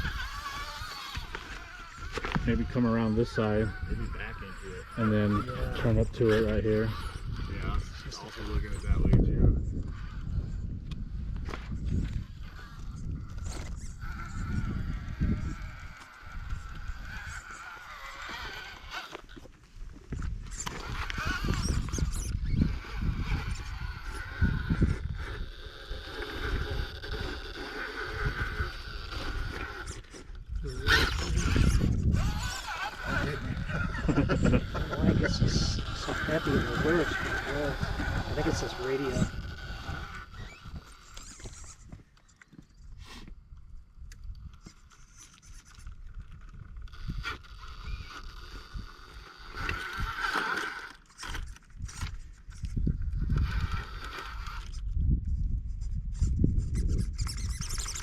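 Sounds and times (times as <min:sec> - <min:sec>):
wind buffeting microphone: 0:00.0 - 0:42.2, 0:42.8 - 0:50.3, 0:51.3 - 0:58.0
electric motor whining: 0:00.0 - 0:55.2.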